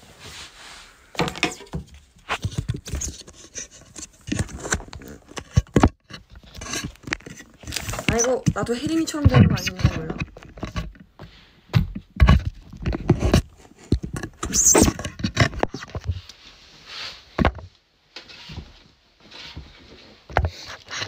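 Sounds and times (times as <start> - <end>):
clothing and chair rustling: 0.0 - 5.6, 6.2 - 14.0, 14.6 - 21.0.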